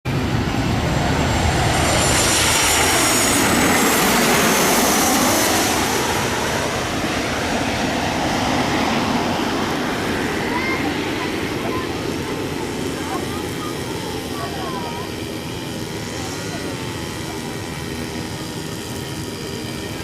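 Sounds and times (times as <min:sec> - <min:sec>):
jet engines roaring: 0:00.0 - 0:20.0
high engine whine: 0:00.1 - 0:20.0.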